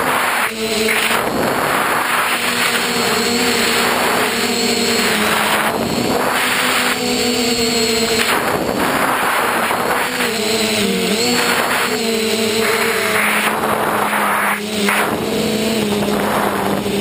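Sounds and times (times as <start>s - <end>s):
small motor running: 0.0s - 17.0s
wind noise rushes: 0.0s - 17.0s.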